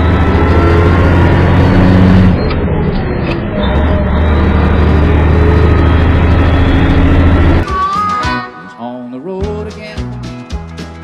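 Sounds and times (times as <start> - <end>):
truck diesel engine hum: 0.0 - 9.0.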